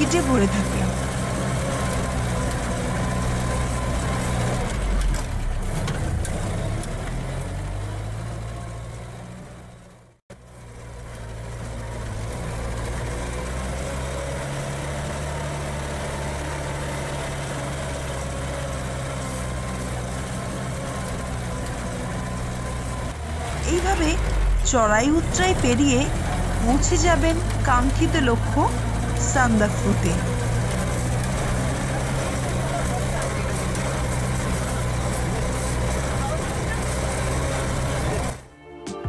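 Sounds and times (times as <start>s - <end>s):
car engine running inside cabin: 0.0s - 38.4s.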